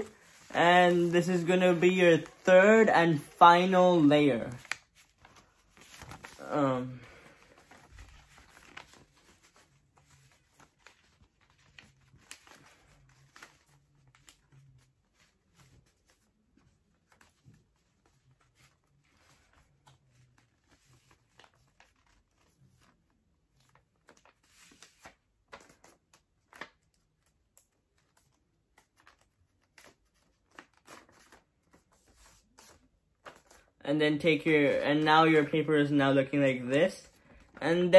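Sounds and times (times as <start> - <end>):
paper crackling as folded: 0.0 - 37.9.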